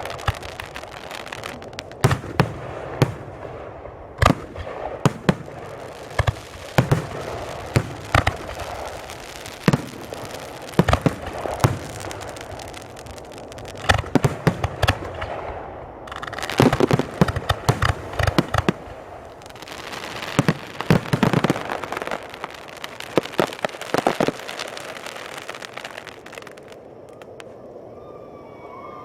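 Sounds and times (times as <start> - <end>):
fireworks bangs: 0.0 - 27.6
fireworks crackling: 0.0 - 27.8.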